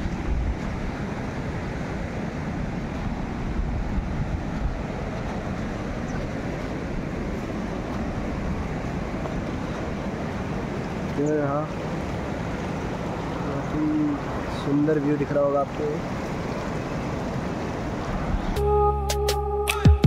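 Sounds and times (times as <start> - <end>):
wind rumble on microphone: 0.0 - 14.8, 15.7 - 18.6
river rushing over boulders: 0.0 - 18.6.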